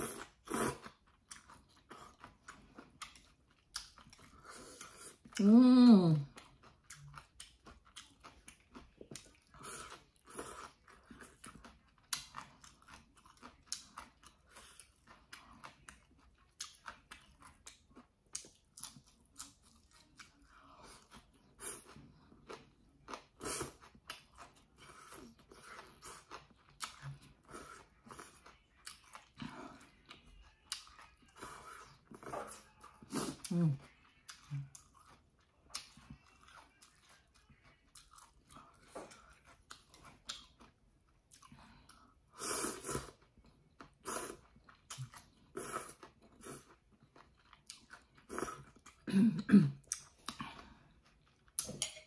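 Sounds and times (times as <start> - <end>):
person chewing noodles: 0.0 - 52.0.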